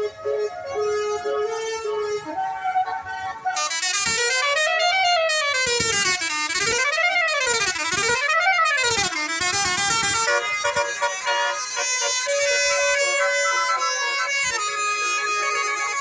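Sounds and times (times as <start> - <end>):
multi-tone musical bus horn: 0.0 - 16.0.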